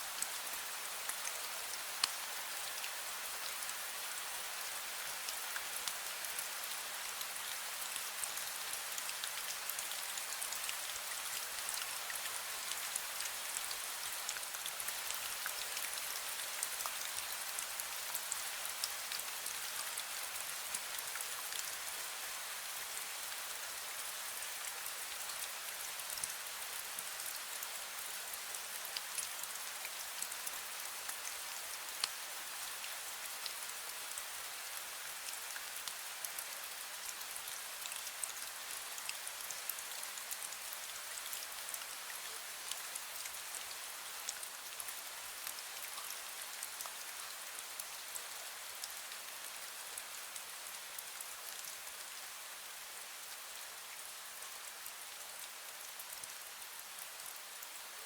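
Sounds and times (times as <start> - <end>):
fine misty rain hissing: 0.0 - 58.0.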